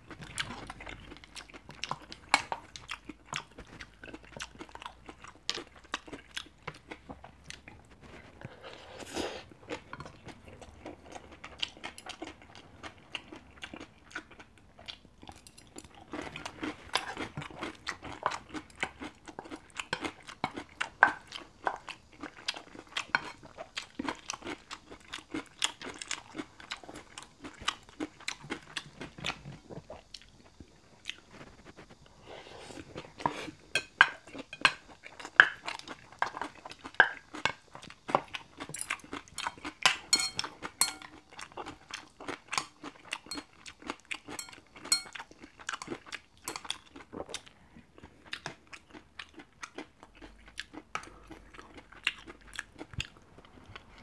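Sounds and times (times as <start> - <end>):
wet chewing and mouth sounds: 0.0 - 54.0.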